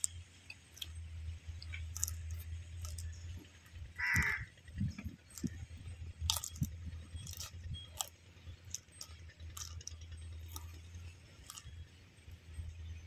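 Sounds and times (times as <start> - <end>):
crab shell crunching while chewing: 0.0 - 12.4
low hum: 0.0 - 13.0.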